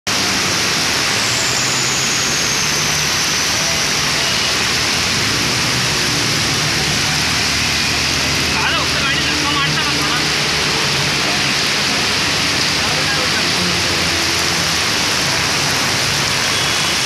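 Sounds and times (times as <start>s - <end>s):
heavy rain pouring: 0.0s - 17.0s
floodwater rushing: 0.1s - 17.0s
vehicle engines in water: 0.1s - 17.0s.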